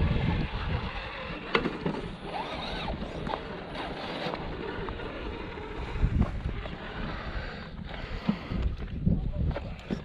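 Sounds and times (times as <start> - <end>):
electric motor whining: 0.0 - 8.2
wind rumble on microphone: 0.0 - 10.0.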